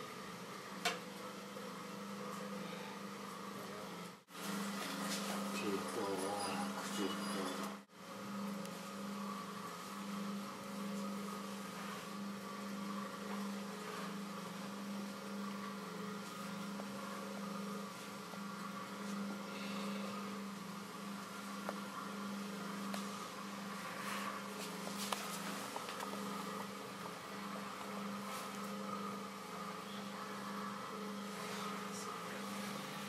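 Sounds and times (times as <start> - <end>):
potter's wheel motor humming: 0.0 - 33.0.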